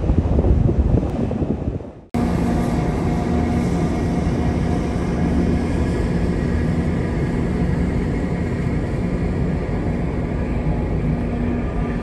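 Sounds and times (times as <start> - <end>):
ship engine drone: 0.0 - 12.0
machinery hum tones: 2.2 - 12.0
rushing noise: 2.2 - 12.0.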